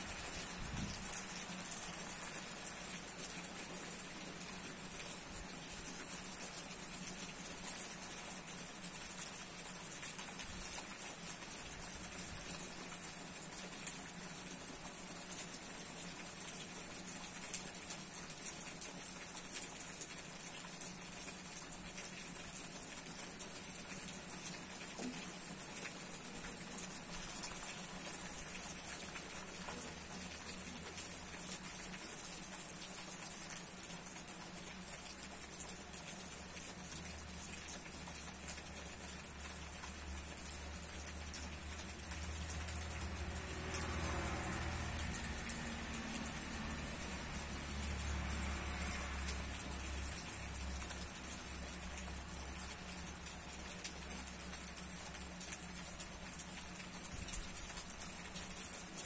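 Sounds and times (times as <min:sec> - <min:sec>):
hard rain on leafy tree: 0:00.0 - 0:59.0.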